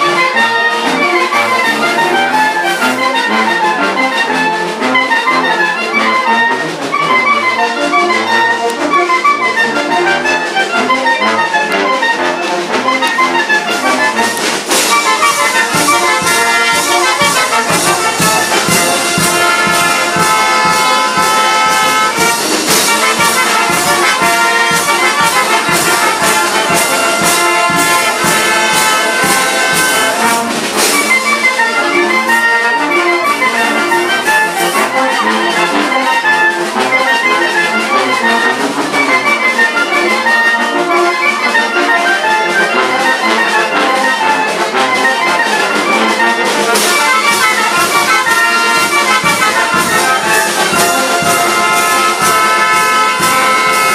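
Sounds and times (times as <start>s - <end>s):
brass band playing dance music: 0.0s - 53.9s
percussion beat: 0.0s - 53.9s.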